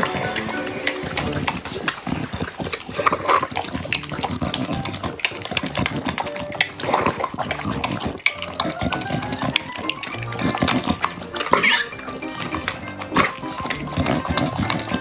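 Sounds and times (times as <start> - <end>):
dogs chewing and slurping: 0.0 - 15.0.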